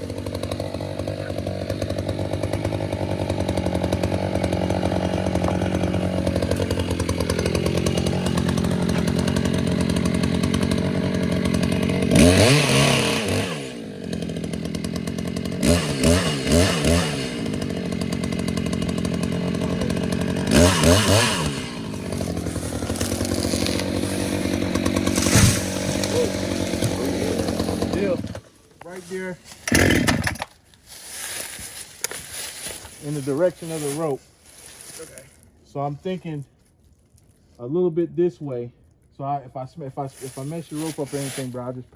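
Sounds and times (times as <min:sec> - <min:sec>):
chainsaw idling and revving: 0:00.0 - 0:35.4, 0:40.1 - 0:41.9.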